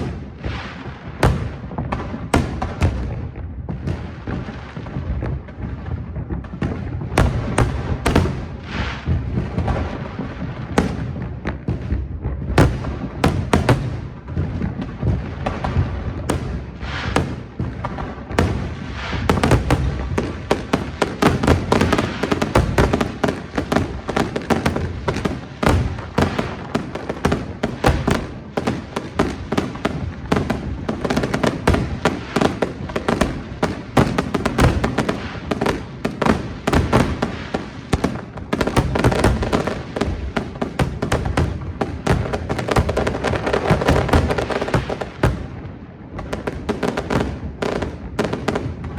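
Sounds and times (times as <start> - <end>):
firework bursts and crackles: 0.0 - 48.9.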